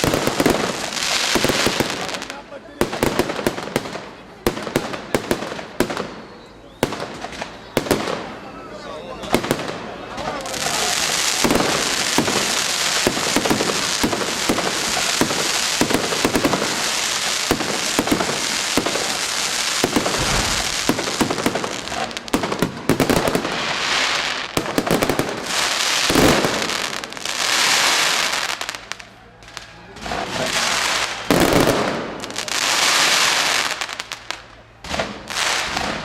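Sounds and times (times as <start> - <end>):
crackling firework shells: 0.0 - 8.4, 9.3 - 36.0
firework bangs: 0.0 - 8.5, 9.2 - 29.0, 30.0 - 36.0.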